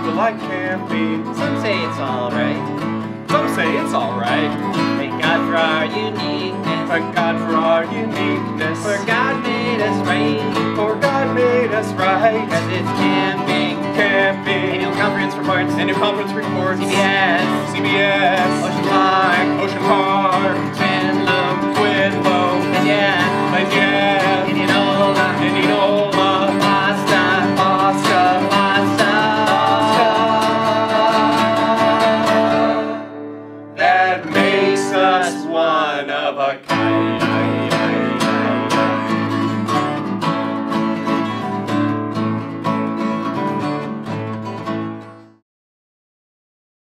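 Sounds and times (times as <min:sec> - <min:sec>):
men singing: 0:00.0 - 0:02.7, 0:03.3 - 0:33.2, 0:33.8 - 0:39.6
acoustic guitars strumming: 0:00.0 - 0:45.4.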